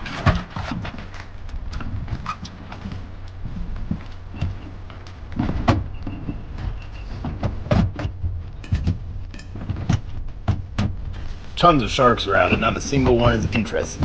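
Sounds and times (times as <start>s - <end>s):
knocks and thumps on boat: 0.0s - 11.4s, 12.4s - 14.0s
steady low hum: 0.0s - 14.0s.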